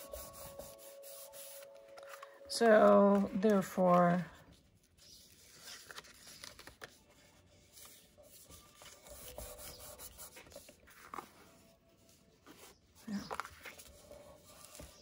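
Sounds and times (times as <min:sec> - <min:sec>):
paper rubbing and rustling: 0:00.0 - 0:15.0.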